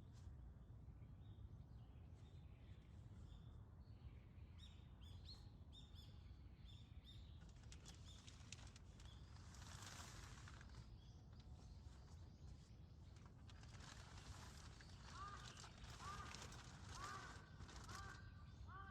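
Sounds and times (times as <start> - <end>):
small birds chirping: 1.2 - 18.9.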